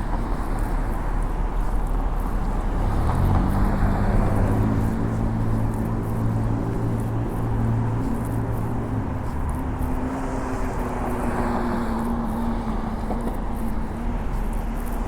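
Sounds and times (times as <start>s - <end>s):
street traffic roar: 0.0s - 15.0s
vehicle engine humming: 0.0s - 15.0s.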